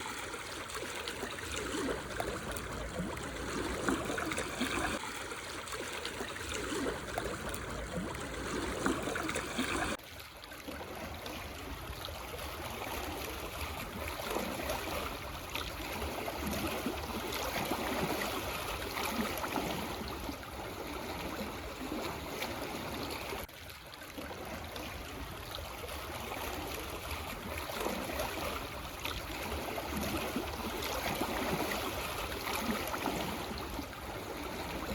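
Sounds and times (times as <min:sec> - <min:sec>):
small waves lapping on stones: 0:00.0 - 0:34.9.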